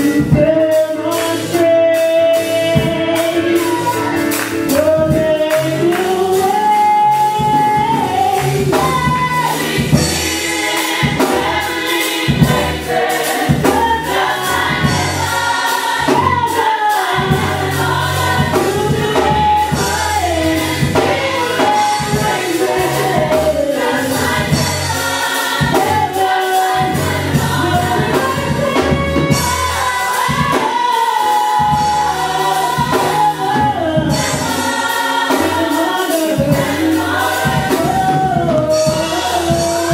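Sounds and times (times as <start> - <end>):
band with drums: 0.0 - 39.9
choir singing: 7.5 - 39.9.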